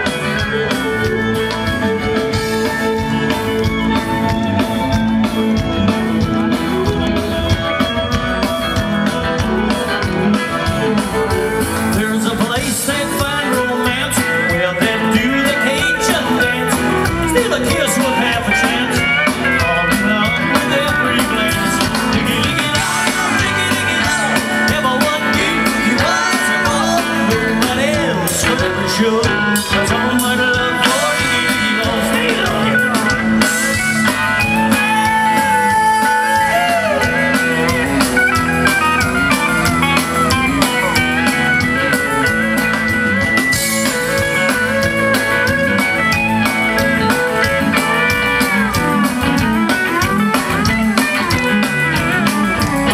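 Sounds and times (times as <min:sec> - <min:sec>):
drum kit: 0:00.0 - 0:52.9
fiddle: 0:00.0 - 0:52.9
guitar: 0:00.0 - 0:52.9
pedal steel guitar: 0:00.0 - 0:52.9.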